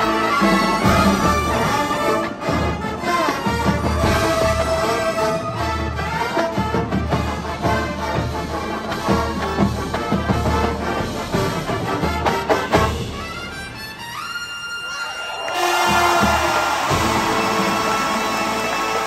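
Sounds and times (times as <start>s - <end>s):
brass hornline: 0.0s - 19.0s
drums: 0.0s - 19.0s
keyboards and percussion: 0.0s - 19.0s.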